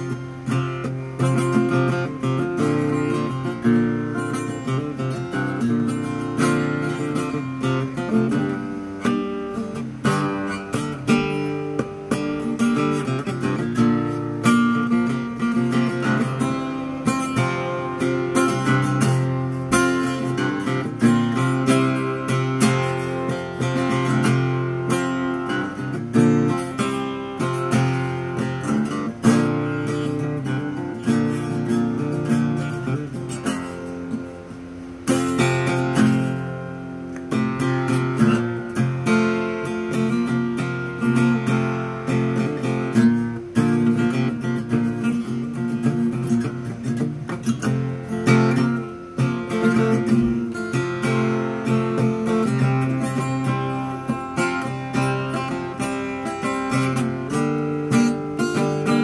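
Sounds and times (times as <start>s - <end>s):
acoustic guitar solo and strumming: 0.0s - 59.0s.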